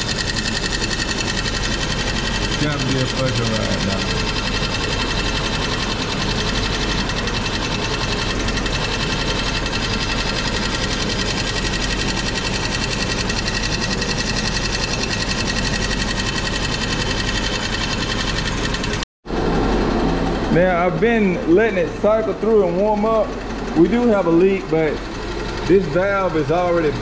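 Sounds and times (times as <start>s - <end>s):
fast mechanical ticking: 0.0s - 19.0s, 20.6s - 27.0s
car engine idling: 0.0s - 27.0s.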